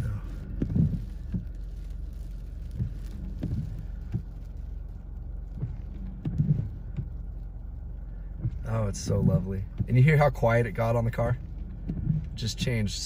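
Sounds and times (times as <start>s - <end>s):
car engine idling: 0.0s - 13.0s
soft taps on a car: 0.0s - 13.0s.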